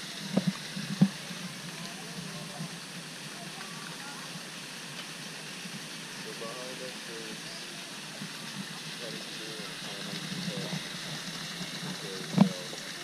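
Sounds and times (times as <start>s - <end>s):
faint voices: 0.0s - 5.5s, 6.1s - 13.0s
fountain spraying into pond: 0.0s - 13.0s.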